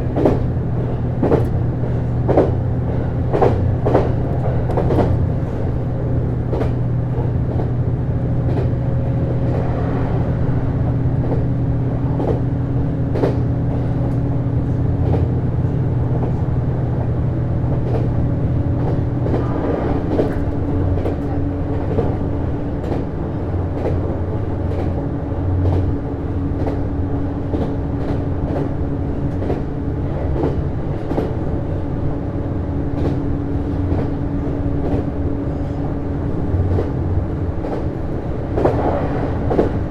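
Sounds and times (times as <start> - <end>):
train drive hum: 0.0 - 39.9.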